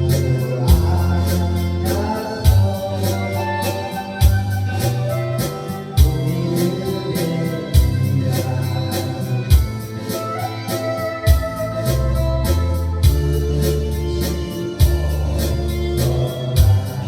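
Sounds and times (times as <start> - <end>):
electronic keyboard organ music: 0.0 - 17.0.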